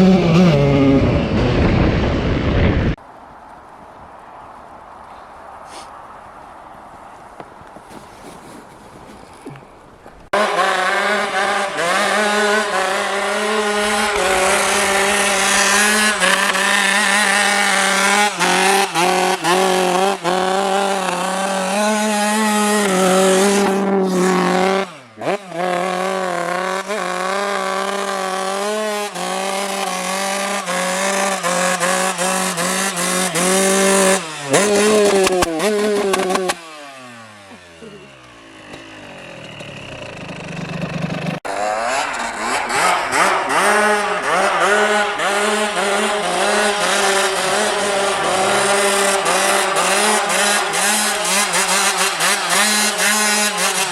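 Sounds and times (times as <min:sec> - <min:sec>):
motorcycle engines revving high: 0:00.0 - 0:03.0, 0:10.3 - 0:53.9.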